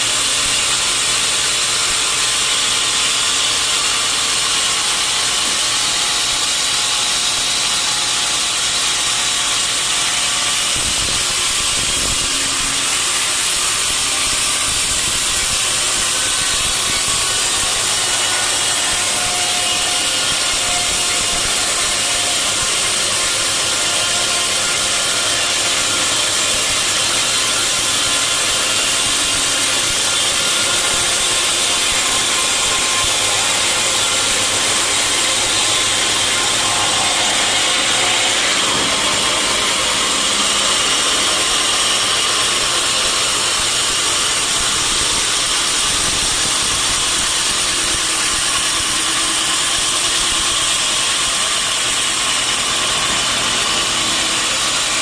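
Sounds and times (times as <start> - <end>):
saw blade cutting through log: 0.0 - 55.0.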